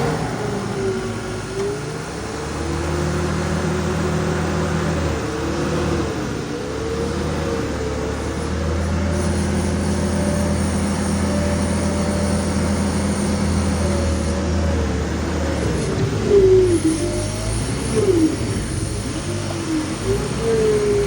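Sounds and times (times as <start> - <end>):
loader engine running: 0.0 - 21.0
loud falling whine: 0.0 - 21.0
squealing whine: 0.0 - 21.0.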